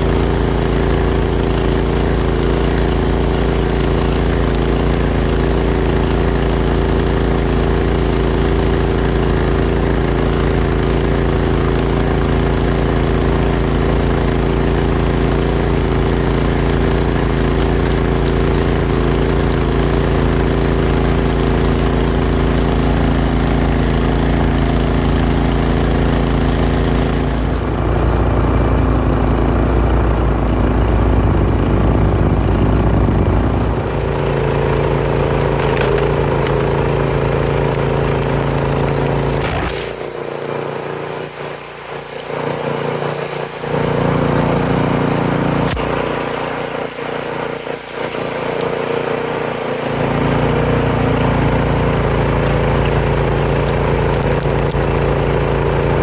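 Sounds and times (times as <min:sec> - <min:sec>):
small locomotive engine running: 0:00.0 - 0:56.0.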